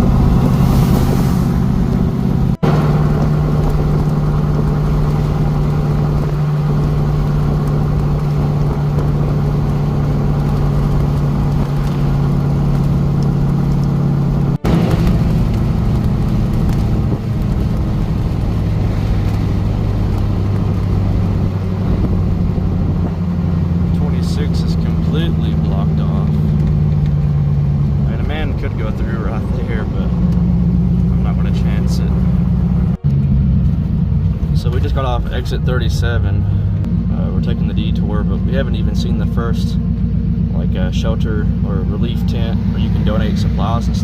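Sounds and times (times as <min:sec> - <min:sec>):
engine droning at cruise: 0:00.0 - 0:44.0
road noise: 0:00.0 - 0:44.0.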